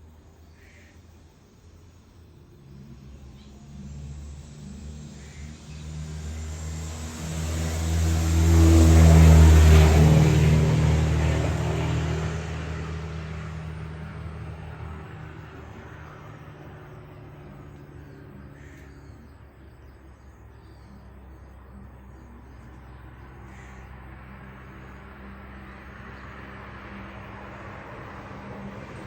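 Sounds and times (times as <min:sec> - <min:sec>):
vehicle driving past: 0:02.2 - 0:29.0.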